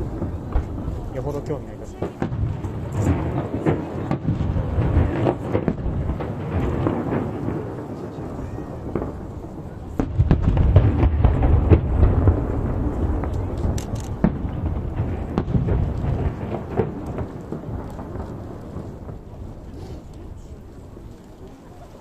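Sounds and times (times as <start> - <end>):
firework shells bursting: 0.0 - 21.6
deep rolling rumble: 0.0 - 21.8.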